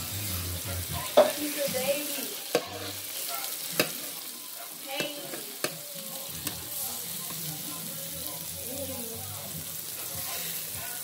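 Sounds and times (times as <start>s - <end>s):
patties sizzling in a pan: 0.0s - 11.0s.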